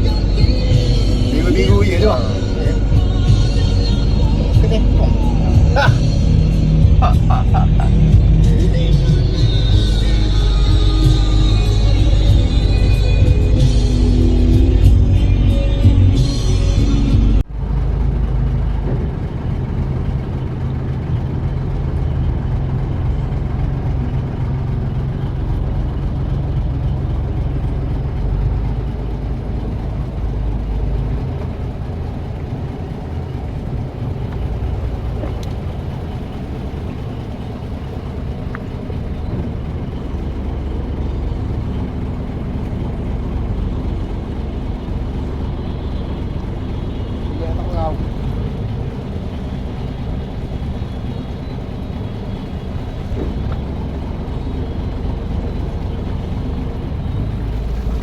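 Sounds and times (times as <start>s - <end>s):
boat engine rumbling: 0.0s - 58.0s.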